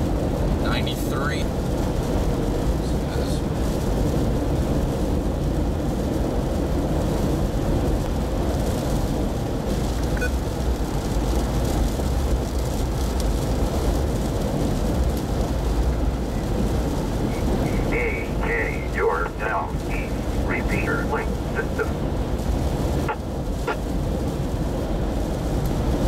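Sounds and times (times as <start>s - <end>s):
strong wind blowing against car: 0.0s - 26.0s.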